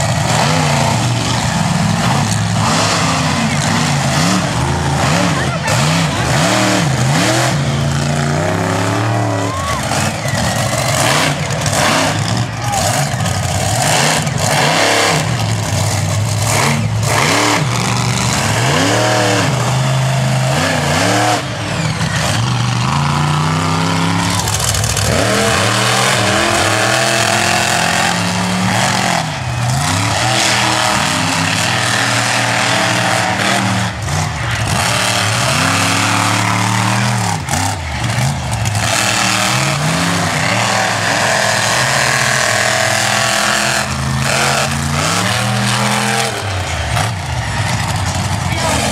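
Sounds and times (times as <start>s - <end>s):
truck engines revving: 0.0s - 48.9s.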